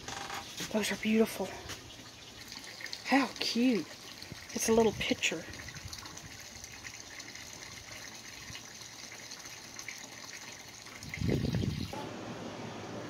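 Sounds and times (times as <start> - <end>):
water splashing into a tub: 0.6 - 12.0.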